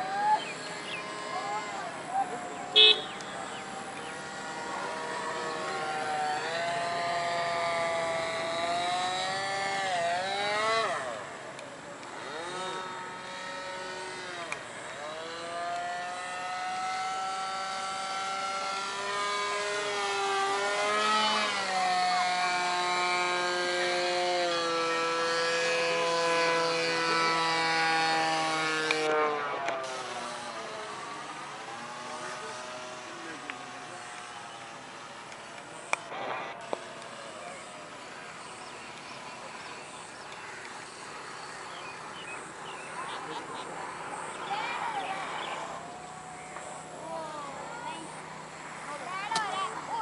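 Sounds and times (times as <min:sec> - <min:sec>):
model airplane motor buzzing: 0:00.0 - 0:50.0.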